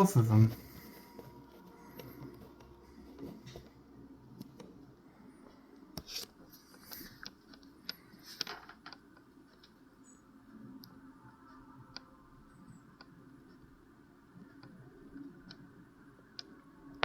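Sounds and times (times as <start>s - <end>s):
faint clicks and taps: 0.5s - 12.1s, 12.7s - 17.0s.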